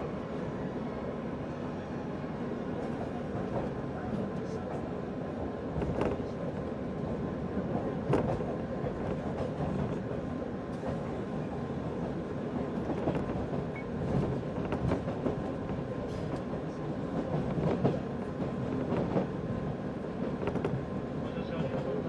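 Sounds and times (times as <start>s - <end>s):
train wheels rumbling on rail: 1.2s - 22.0s.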